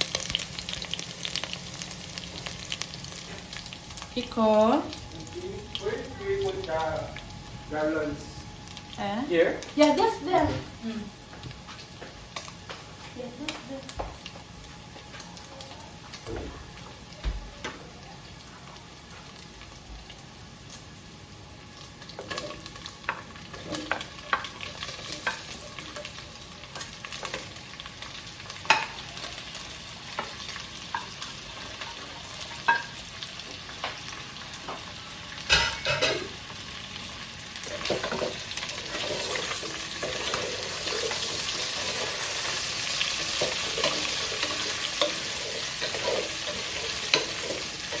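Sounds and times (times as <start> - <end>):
food sizzling in a pot: 0.0 - 48.0.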